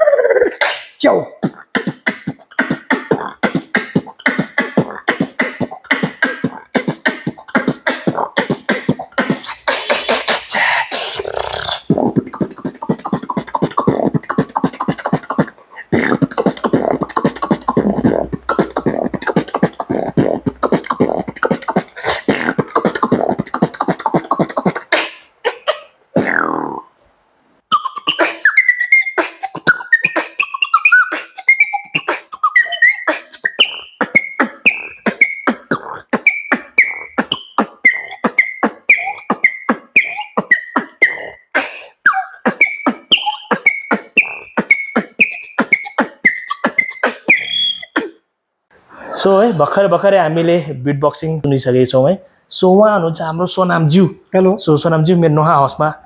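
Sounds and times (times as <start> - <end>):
human beatboxing: 0.0 - 26.9, 27.7 - 48.2
hummed vocal tones: 0.0 - 26.9, 27.7 - 48.2.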